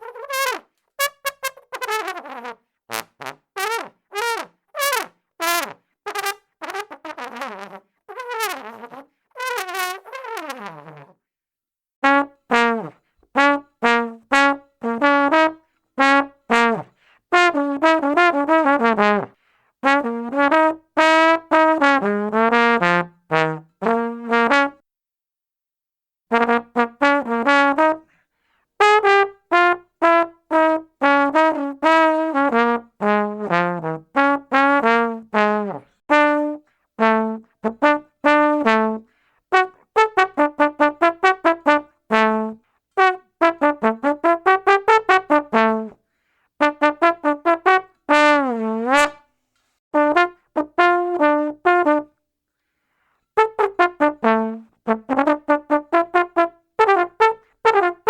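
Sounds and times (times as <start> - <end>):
tuba playing detached notes: 0.0 - 11.2, 12.0 - 24.8, 26.3 - 28.1, 28.8 - 46.0, 46.6 - 49.2, 50.0 - 52.2, 53.4 - 58.0.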